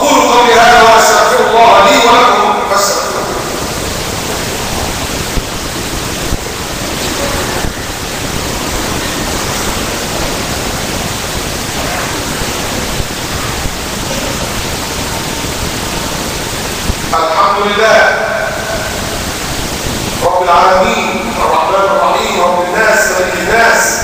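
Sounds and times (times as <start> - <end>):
steady rushing hiss: 0.0 - 24.0.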